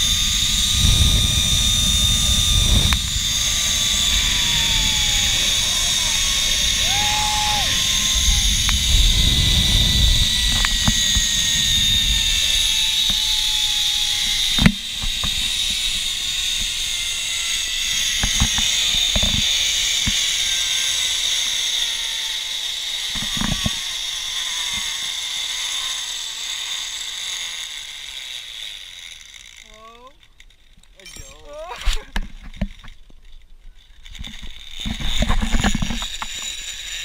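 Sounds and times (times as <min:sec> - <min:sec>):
zipline pulleys whirring on cable: 0:00.0 - 0:37.0.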